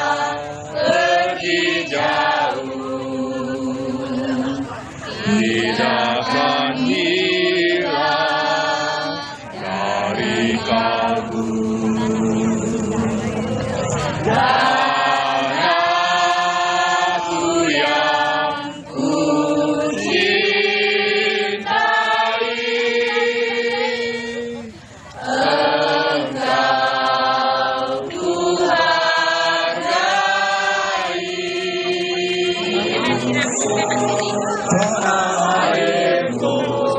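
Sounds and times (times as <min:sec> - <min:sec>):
group singing in unison: 0:00.0 - 0:36.9.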